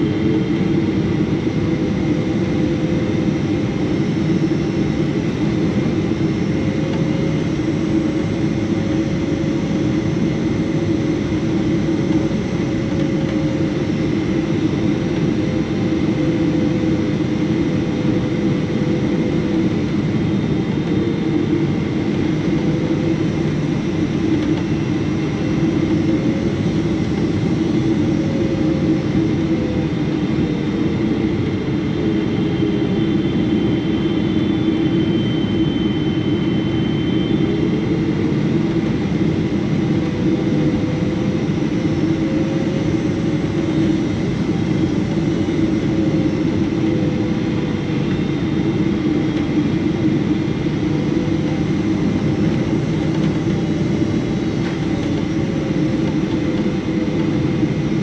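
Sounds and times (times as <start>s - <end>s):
jet engine and airflow roar: 0.0s - 58.0s
faint wavering engine tone: 10.9s - 57.8s.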